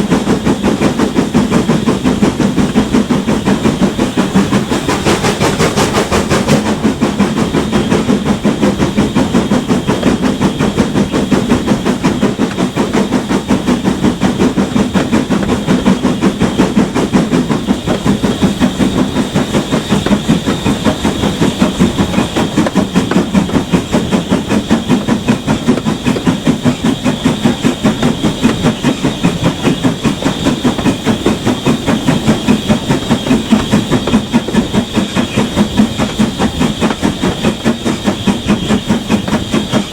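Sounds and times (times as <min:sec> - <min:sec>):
steam locomotive chuffing: 0:00.0 - 0:39.9.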